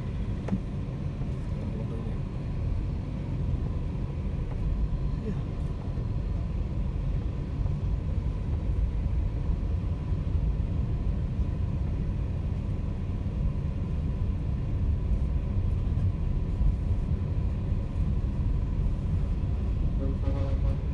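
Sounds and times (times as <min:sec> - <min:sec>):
car engine and tyre noise: 0:00.0 - 0:20.9.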